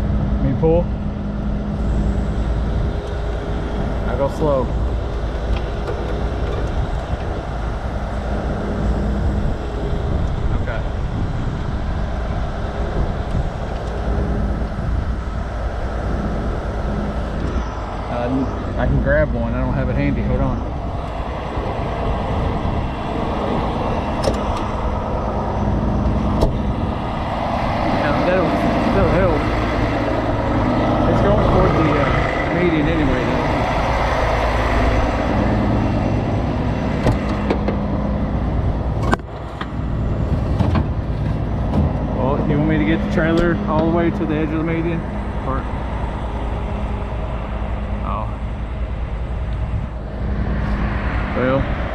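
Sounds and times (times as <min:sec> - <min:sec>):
truck diesel engine rumbling: 0:00.0 - 0:51.9.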